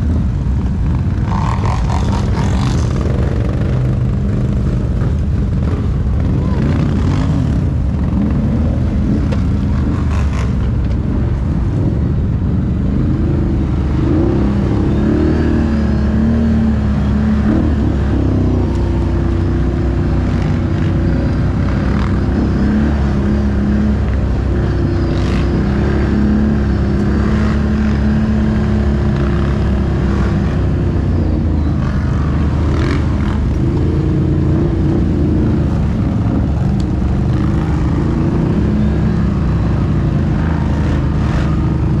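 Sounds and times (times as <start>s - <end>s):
atv engine rumble: 0.0s - 42.0s.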